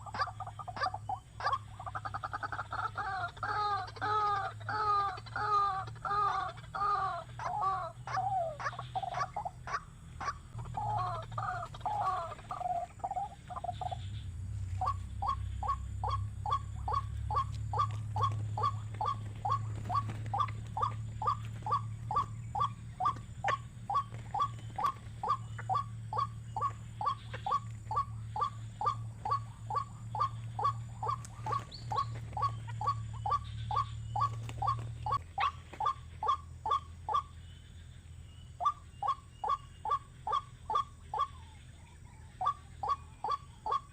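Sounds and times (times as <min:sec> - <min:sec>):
bird warbling: 0:00.0 - 0:43.9
low steady hum: 0:00.0 - 0:43.9.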